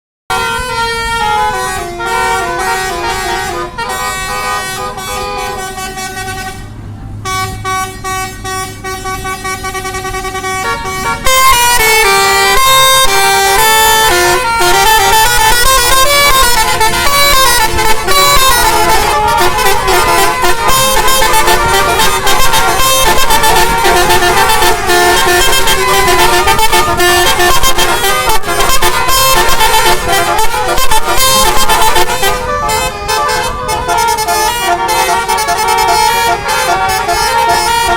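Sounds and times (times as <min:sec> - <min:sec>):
multi-tone car horn melodies: 0:00.3 - 0:37.9.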